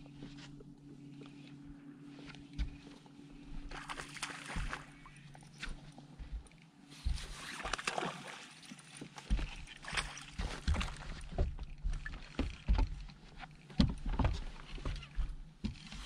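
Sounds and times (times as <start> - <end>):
waves lapping against boat hull: 2.2 - 16.0.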